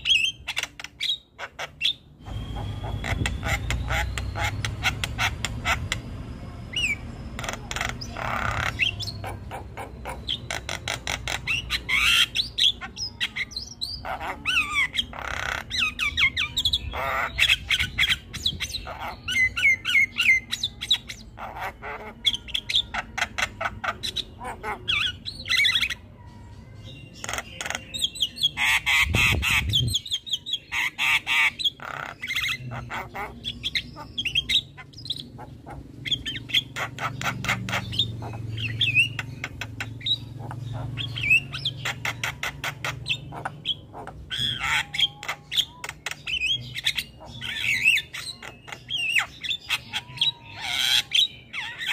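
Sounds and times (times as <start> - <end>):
myna chattering and squawking: 0.0 - 51.9.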